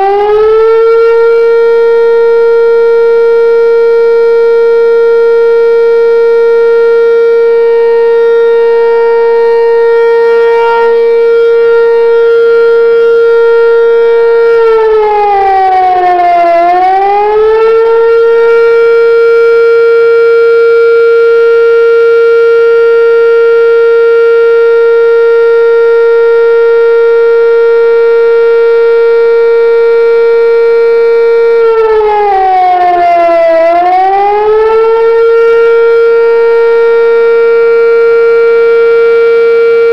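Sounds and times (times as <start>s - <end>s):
warning siren: 0.0s - 39.9s.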